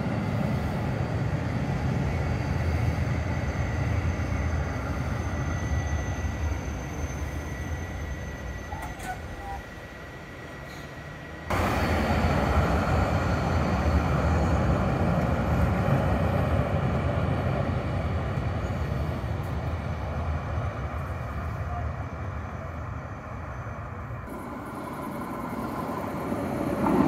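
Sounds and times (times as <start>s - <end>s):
electric tram rumbling: 0.0s - 27.0s.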